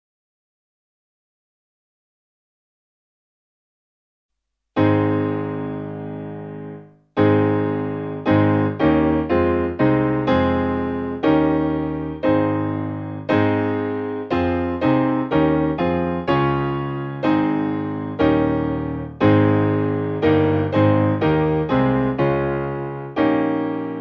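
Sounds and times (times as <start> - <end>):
slow solo piano: 4.8 - 24.0.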